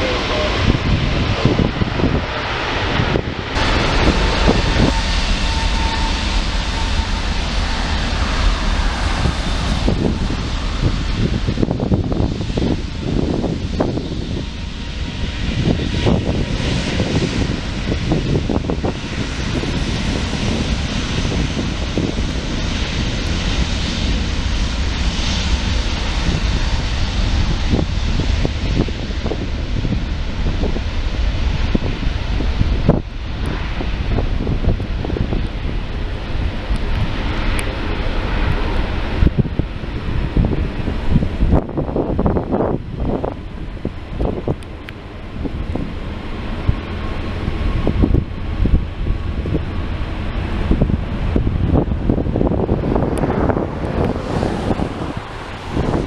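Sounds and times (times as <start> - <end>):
faint jet whine: 0.0 - 56.0
jet airliner engines roaring: 0.0 - 56.0.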